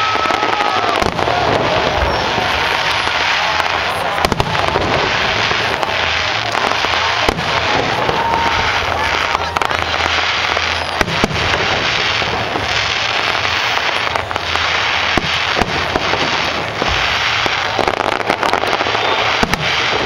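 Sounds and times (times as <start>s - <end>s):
fireworks crackling: 0.0s - 20.0s.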